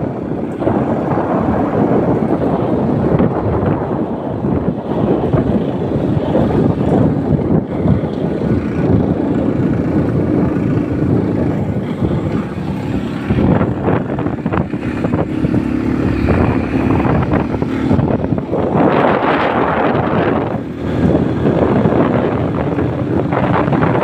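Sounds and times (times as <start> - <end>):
motor scooter engine running: 0.0 - 24.0
wind buffeting microphone: 0.0 - 24.0.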